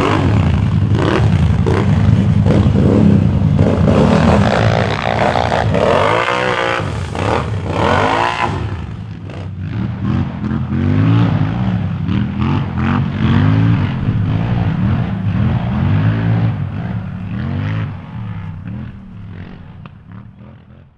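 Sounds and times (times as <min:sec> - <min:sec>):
atv engine revving: 0:00.0 - 0:20.9.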